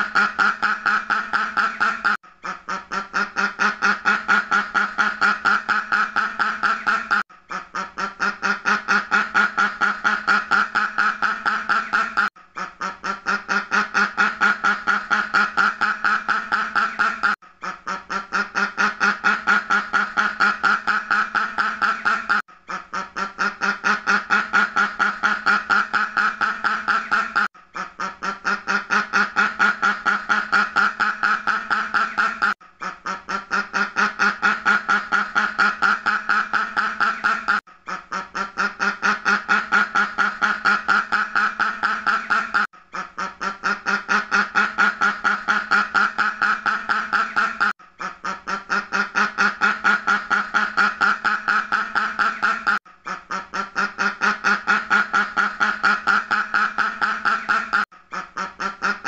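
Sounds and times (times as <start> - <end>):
duck quacking: 0.0 - 59.0.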